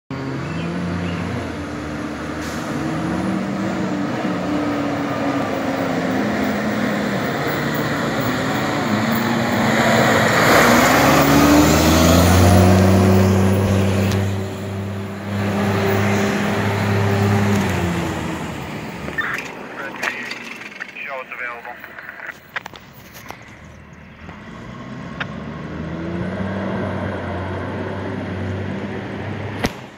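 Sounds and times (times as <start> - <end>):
fire engine diesel engine accelerating: 0.1 - 21.9, 22.8 - 29.9
rush of passing truck: 0.2 - 19.0, 23.6 - 29.9.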